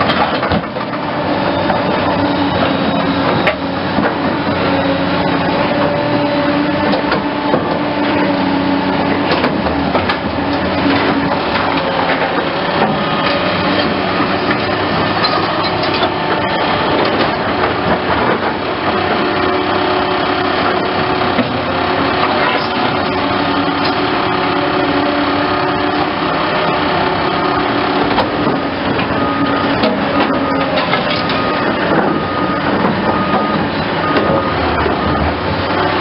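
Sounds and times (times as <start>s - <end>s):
excavator engine running: 0.0s - 36.0s.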